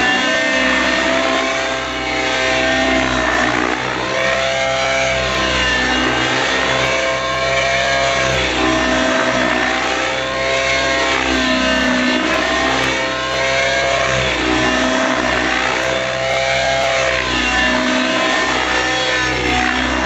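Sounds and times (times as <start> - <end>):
rc helicopter engine and rotor whine: 0.0 - 20.0.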